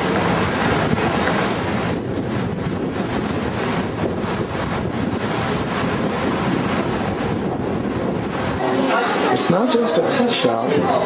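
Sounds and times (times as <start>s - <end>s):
street ambience rush: 0.0s - 11.0s
wind buffeting microphone: 0.0s - 11.0s.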